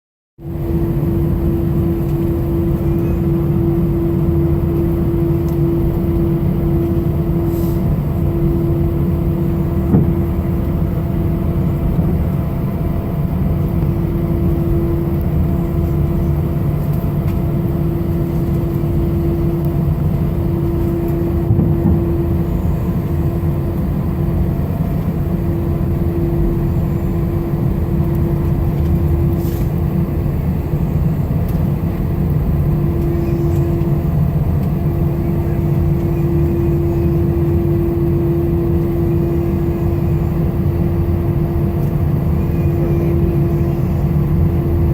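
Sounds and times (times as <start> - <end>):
airliner cabin engine rumble: 0.4 - 44.9.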